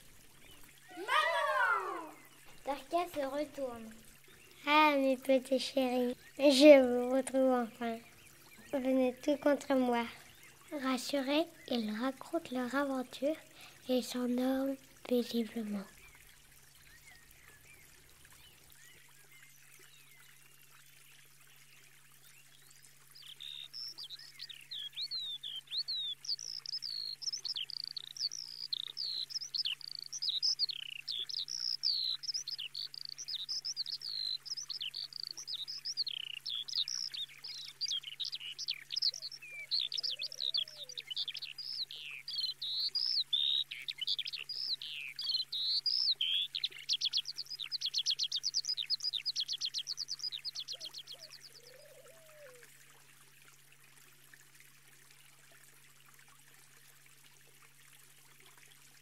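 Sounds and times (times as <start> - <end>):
faint steady hum: 0.0 - 47.6
birds singing: 0.0 - 52.7.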